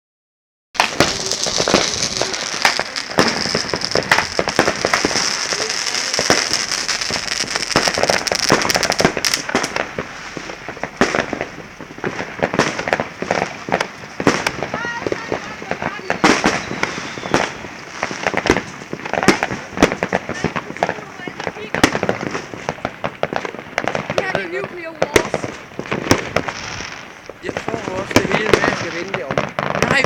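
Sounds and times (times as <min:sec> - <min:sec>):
fireworks bangs and crackling: 0:00.8 - 0:30.0
fireworks hiss: 0:00.8 - 0:30.0.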